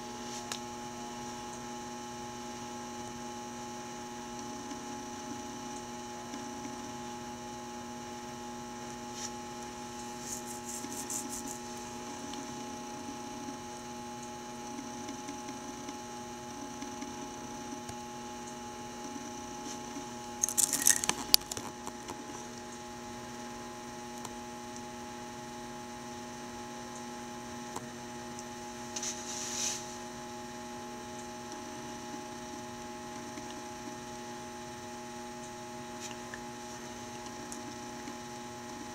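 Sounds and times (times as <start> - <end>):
steady electrical hum: 0.0 - 38.9.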